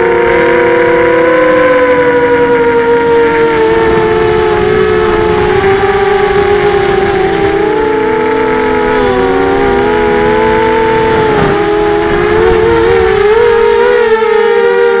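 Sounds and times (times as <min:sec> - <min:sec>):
wind rush: 0:00.0 - 0:14.6
quadcopter motors whining: 0:00.0 - 0:15.0.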